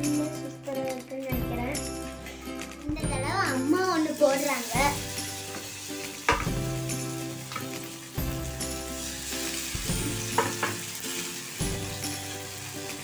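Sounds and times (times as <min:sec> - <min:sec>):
fish sizzling in hot oil: 0:01.3 - 0:13.0.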